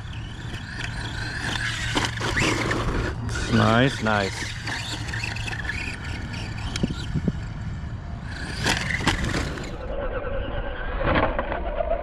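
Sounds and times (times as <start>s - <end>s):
electric motor whining: 0.0s - 9.9s
tyres scraping over dirt: 0.0s - 10.0s.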